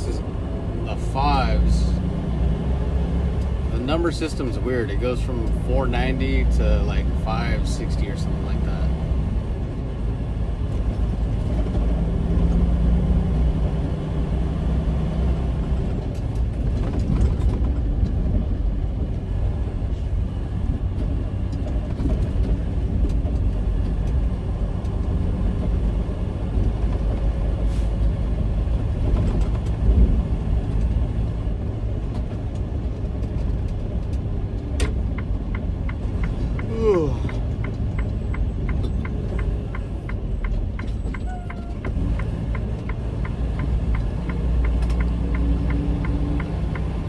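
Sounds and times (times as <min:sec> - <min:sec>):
truck diesel engine rumble: 0:00.0 - 0:47.0.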